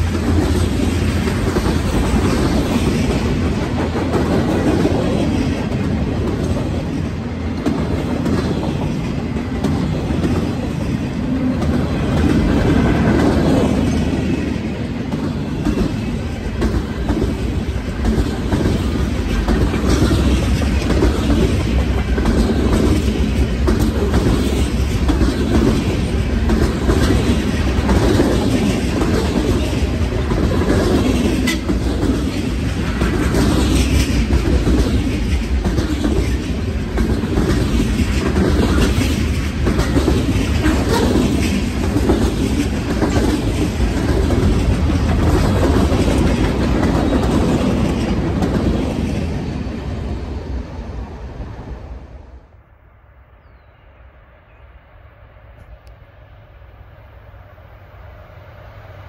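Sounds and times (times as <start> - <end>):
train wheels clicking over rail joints: 0.0 - 49.6
clatter of train cars: 0.0 - 50.1.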